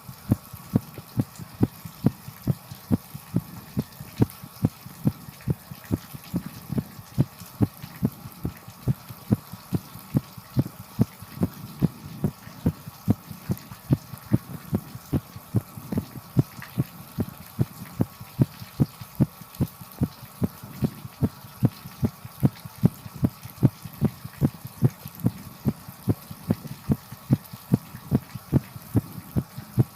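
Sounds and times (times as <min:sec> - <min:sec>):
steady hiss: 0:00.0 - 0:29.9
heartbeat thumps: 0:00.3 - 0:29.9.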